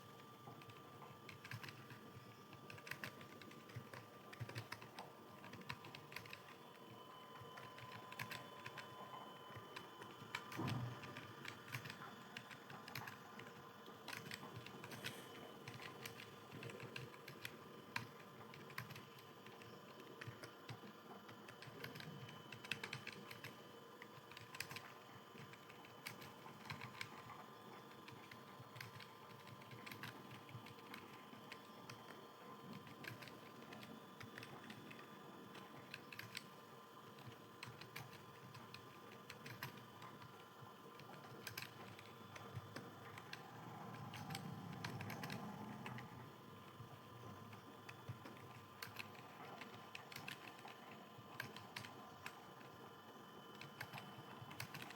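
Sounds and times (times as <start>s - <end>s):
typing on computer keyboard: 0.0s - 54.9s.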